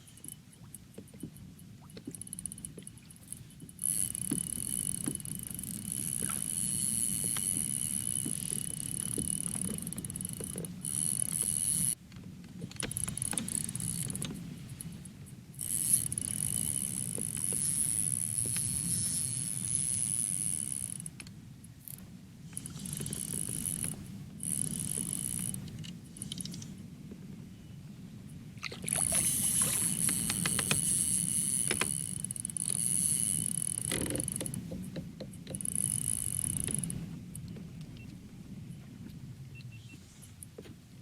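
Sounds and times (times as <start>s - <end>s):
kayak pedal drive whirring: 0.0s - 21.2s, 21.8s - 26.7s, 28.8s - 38.0s
wind and water rumble: 0.0s - 41.0s.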